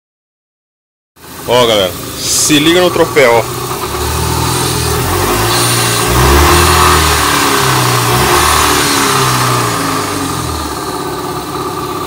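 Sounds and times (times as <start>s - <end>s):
vehicle engine revving: 1.2s - 12.0s.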